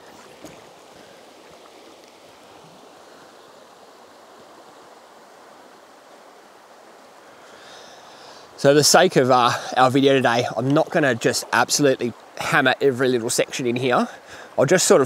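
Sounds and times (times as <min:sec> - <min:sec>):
river water rushing over stones: 0:00.0 - 0:15.0.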